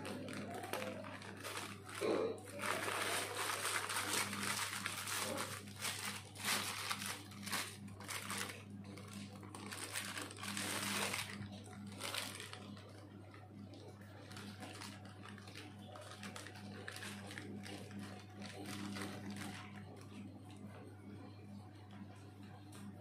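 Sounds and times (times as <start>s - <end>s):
plastic wrap crinkling: 0.0s - 20.2s.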